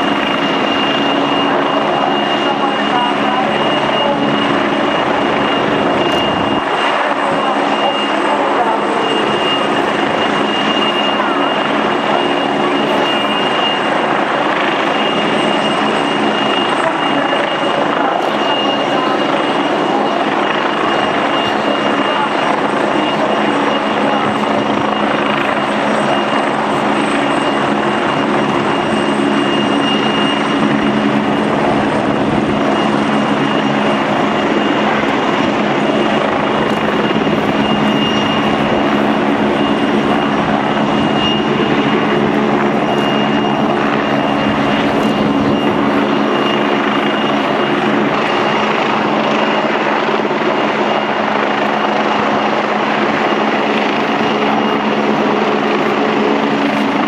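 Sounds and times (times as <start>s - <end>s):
helicopter rotor and engine drone: 0.0s - 57.0s
high turbine whine: 0.0s - 57.0s.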